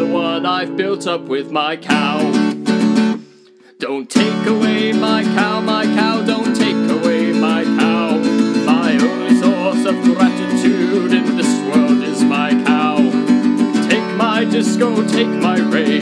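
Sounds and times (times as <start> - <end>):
man singing: 0.0 - 2.6, 3.7 - 16.0
strummed acoustic guitar: 0.0 - 16.0.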